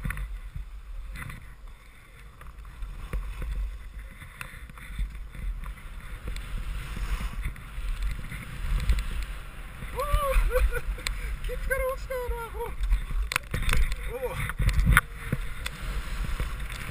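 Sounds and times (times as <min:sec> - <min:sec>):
skis scraping over snow: 0:00.0 - 0:16.9
wind buffeting microphone: 0:00.0 - 0:16.9.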